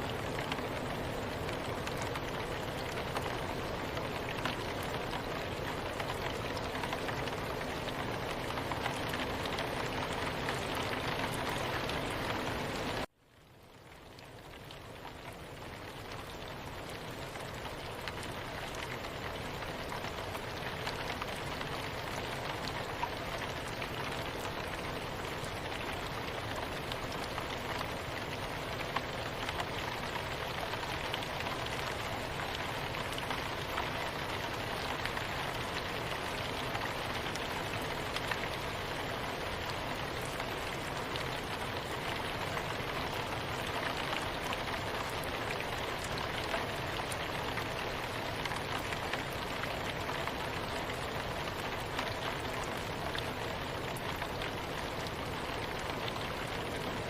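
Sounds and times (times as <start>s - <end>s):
soft rain with fine drop ticks: 0.0s - 57.0s.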